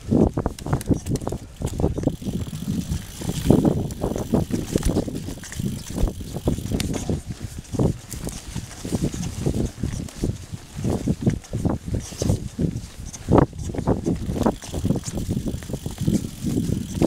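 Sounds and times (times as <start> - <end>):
mountain bike rattling and thudding: 0.0 - 17.0.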